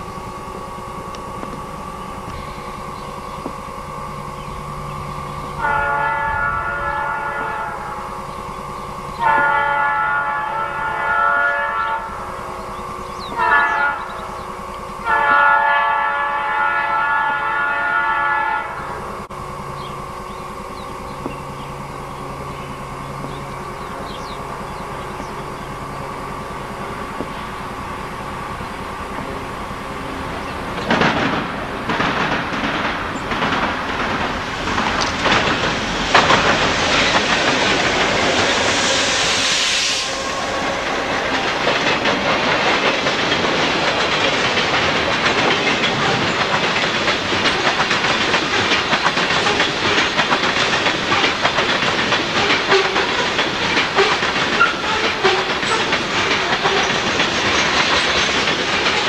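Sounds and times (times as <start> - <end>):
diesel locomotive passing: 0.0 - 59.0
train wheels clacking on rails: 0.0 - 59.0.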